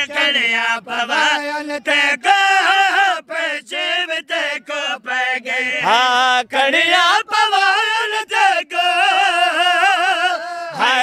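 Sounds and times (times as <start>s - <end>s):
men chanting a lament: 0.0s - 11.0s.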